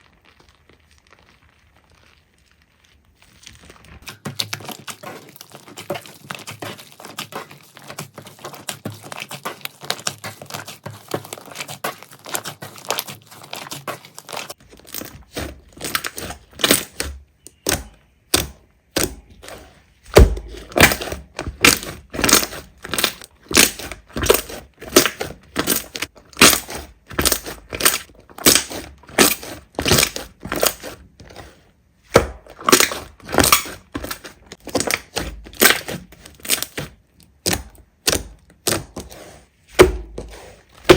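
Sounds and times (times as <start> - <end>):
slime crackling: 0.0 - 40.9
slime squishing crunchily: 0.0 - 40.9.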